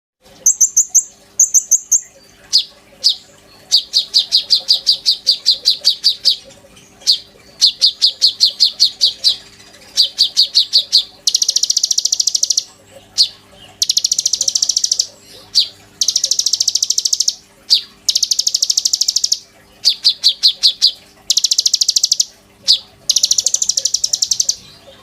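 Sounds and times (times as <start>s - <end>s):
fast buzzy trill: 0.4s - 19.4s, 20.1s - 24.7s
songbird singing: 0.4s - 25.0s.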